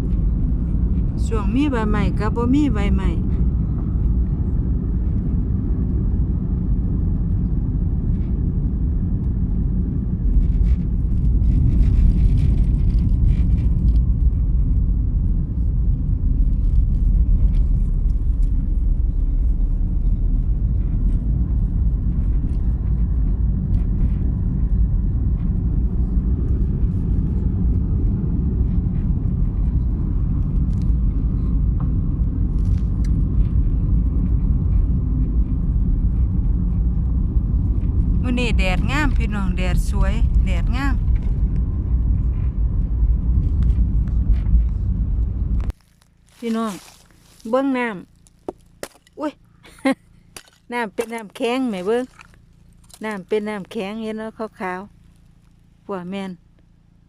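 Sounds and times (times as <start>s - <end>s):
vehicle running rumble: 0.0s - 57.0s.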